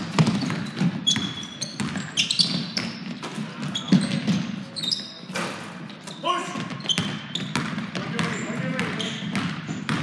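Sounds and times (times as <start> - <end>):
basketball bouncing on wooden floor: 0.0 - 4.6, 6.5 - 10.0
sneakers squeaking: 0.0 - 10.0.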